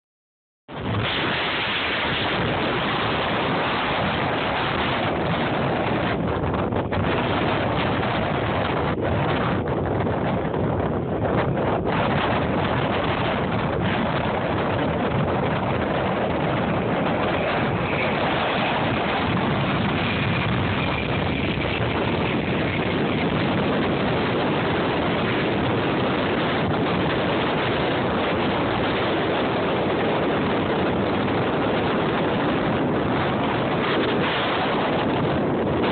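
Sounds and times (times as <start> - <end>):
jet engine noise: 0.7 - 35.9
wind buffeting microphone: 0.7 - 35.9.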